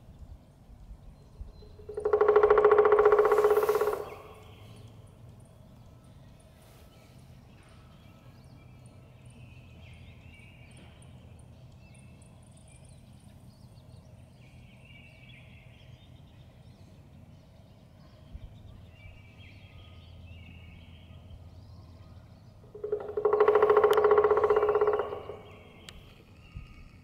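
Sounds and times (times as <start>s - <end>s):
low steady rumble: 0.0s - 27.0s
small birds singing: 0.0s - 27.0s.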